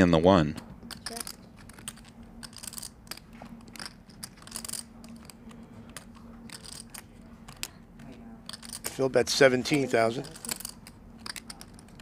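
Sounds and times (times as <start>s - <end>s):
faint room hum: 0.0s - 12.0s
poker chips clicking: 0.9s - 9.1s, 9.7s - 12.0s.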